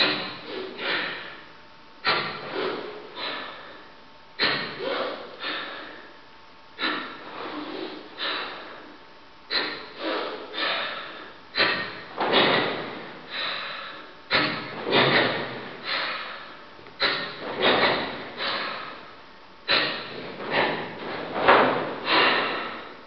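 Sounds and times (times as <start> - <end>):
forceful hissing breaths: 0.0 - 6.2, 6.8 - 23.0.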